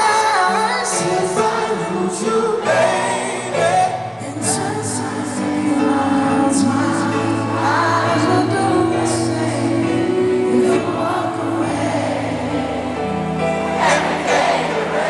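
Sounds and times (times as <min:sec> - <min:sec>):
live band playing ballad with singing: 0:00.0 - 0:15.0.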